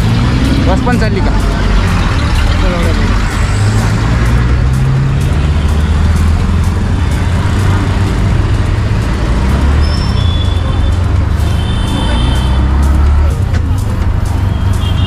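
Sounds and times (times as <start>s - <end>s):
road and traffic rumble: 0.0s - 15.0s.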